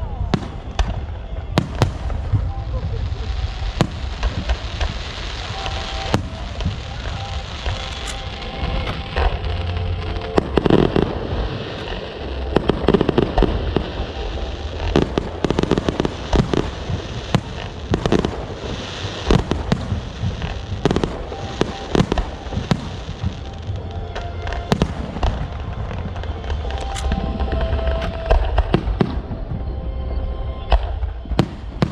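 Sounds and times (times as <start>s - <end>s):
fireworks bangs and crackles: 0.0s - 29.9s, 30.6s - 31.9s
music: 0.0s - 31.9s.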